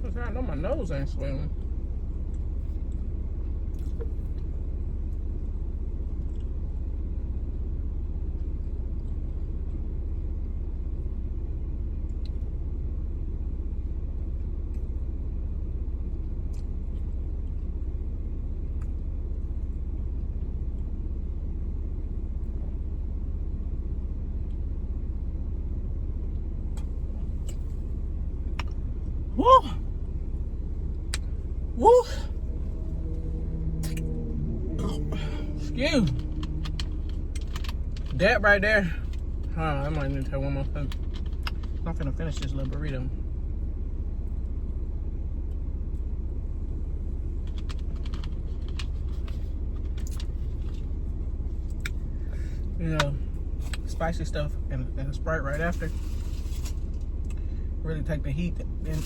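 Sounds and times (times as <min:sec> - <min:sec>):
car interior rumble: 0:00.0 - 0:59.0.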